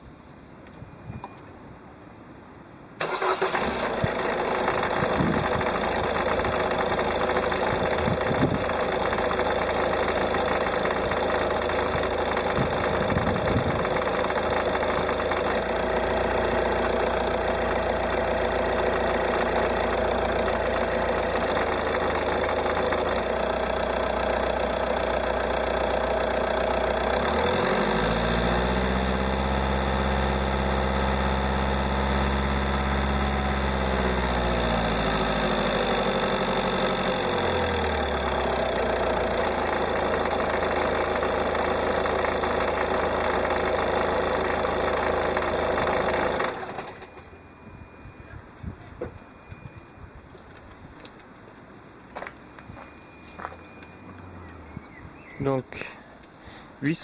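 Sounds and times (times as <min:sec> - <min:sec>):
diesel engine idling: 0:03.0 - 0:49.7.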